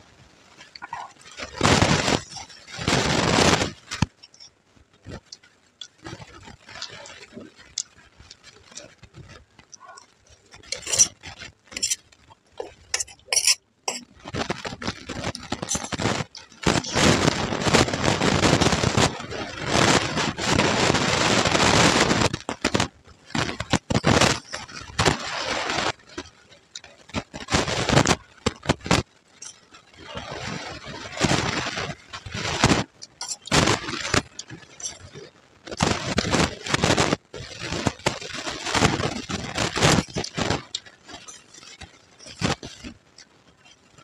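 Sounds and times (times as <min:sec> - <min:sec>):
crackly chewing noise: 0:00.0 - 0:44.0.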